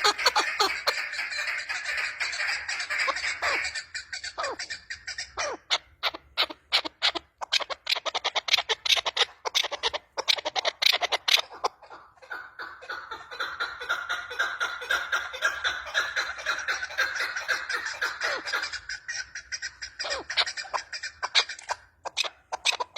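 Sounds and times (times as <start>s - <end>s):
partridge clucking chatter: 0.0s - 22.9s.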